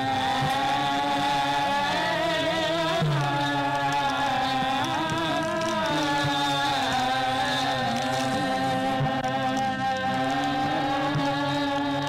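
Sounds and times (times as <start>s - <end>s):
person singing long sliding notes: 0.0s - 12.0s.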